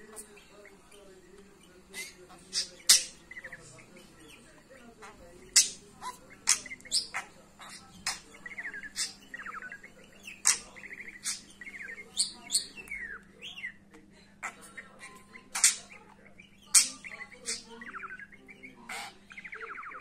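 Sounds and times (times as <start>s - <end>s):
budgerigar chattering: 0.0s - 20.0s.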